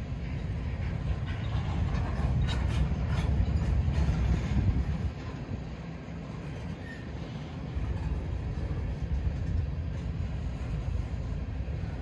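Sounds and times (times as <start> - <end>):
freight train rumbling past: 0.0 - 12.0
train wheels clacking: 0.0 - 12.0.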